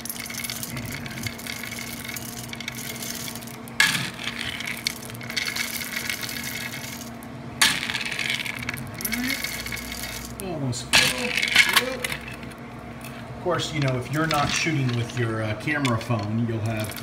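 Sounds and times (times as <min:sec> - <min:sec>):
pellets rattling into metal tube: 0:00.0 - 0:10.4, 0:11.0 - 0:12.6, 0:13.6 - 0:17.0.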